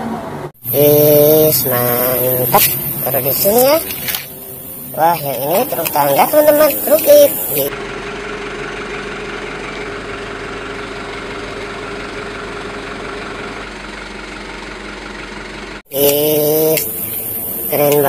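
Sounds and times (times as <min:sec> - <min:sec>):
truck engine idling: 0:00.6 - 0:18.0.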